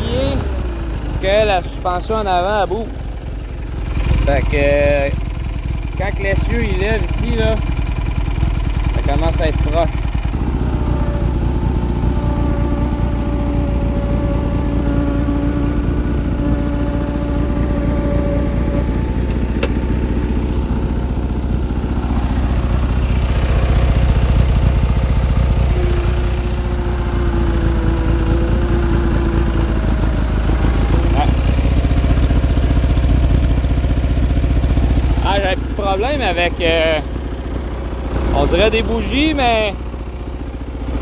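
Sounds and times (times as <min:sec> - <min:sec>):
garden tractor engine running: 0:00.0 - 0:41.0.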